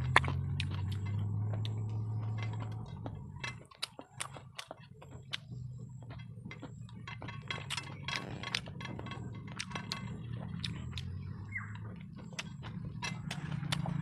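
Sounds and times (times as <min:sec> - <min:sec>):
chewing and lip smacks: 0:00.0 - 0:14.0
fingers mixing rice on a plate: 0:00.0 - 0:14.0.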